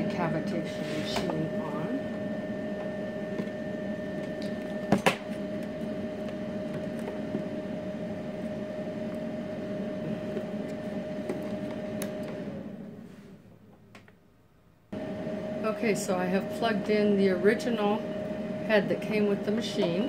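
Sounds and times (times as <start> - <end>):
higher whine: 0.0 - 13.1, 14.9 - 20.0
electrical hum: 0.0 - 20.0.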